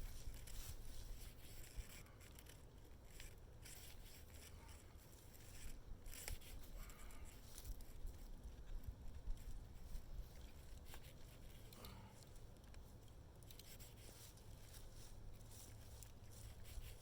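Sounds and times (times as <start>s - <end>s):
rope rasping through pulley: 0.0s - 17.0s.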